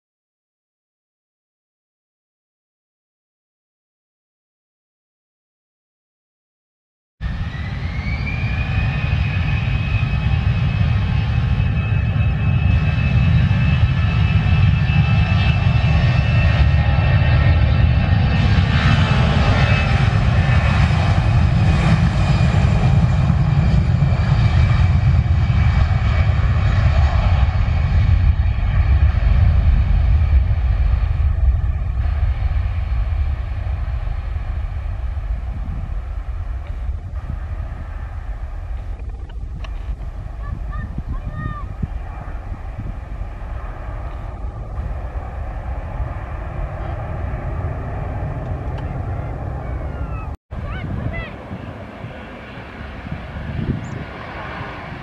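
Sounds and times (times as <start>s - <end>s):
engine fan whine: 7.2s - 55.0s
jet engines at takeoff power: 7.2s - 55.0s.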